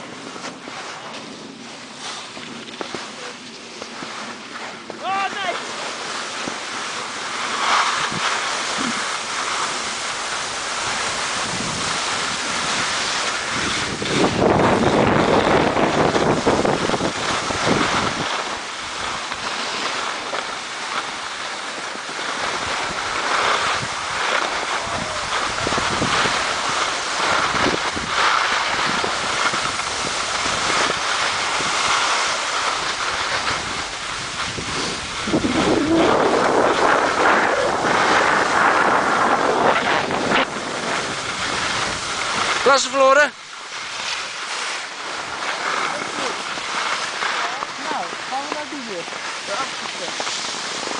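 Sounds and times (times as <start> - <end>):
skis sliding on snow: 0.0 - 50.9
wind buffeting microphone: 4.8 - 50.9.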